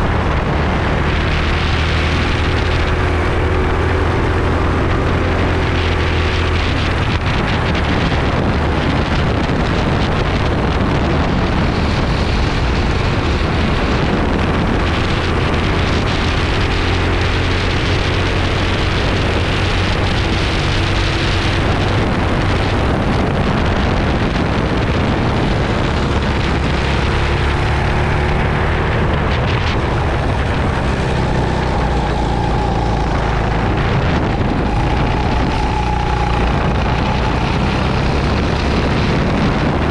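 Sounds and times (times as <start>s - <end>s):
kart engine revving: 0.0s - 39.9s
wind on microphone: 0.0s - 39.9s.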